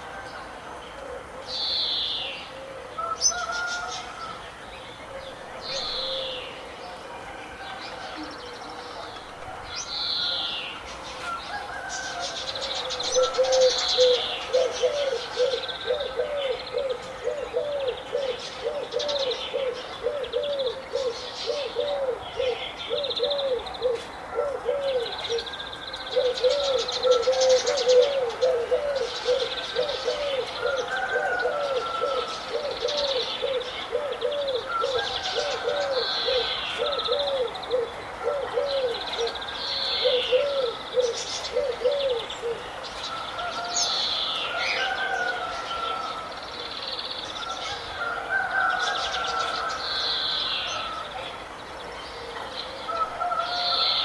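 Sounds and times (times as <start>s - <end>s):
low hooting bird call: 0.0s - 6.6s, 9.7s - 51.2s
birds chirping and twittering: 0.0s - 54.0s.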